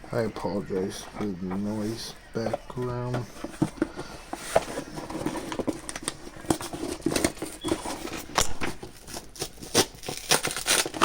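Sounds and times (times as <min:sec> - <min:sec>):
packaging rustling: 0:00.9 - 0:11.0.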